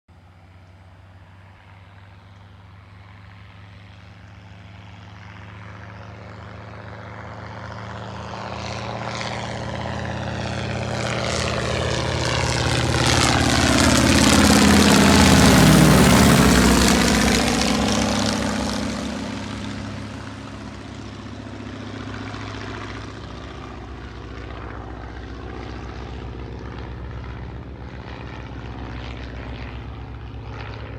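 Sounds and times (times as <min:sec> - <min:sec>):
propeller airplane flying past: 0:00.1 - 0:30.9.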